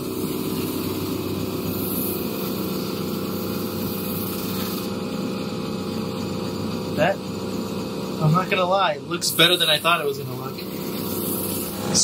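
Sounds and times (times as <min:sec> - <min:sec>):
buffing machine humming: 0:00.0 - 0:12.0.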